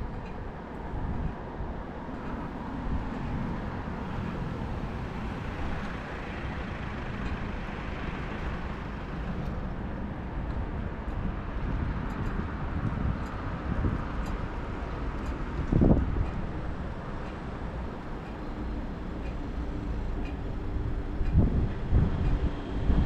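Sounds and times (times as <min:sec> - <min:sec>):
road traffic noise: 0:00.0 - 0:23.0
wind rumble on microphone: 0:00.0 - 0:23.0.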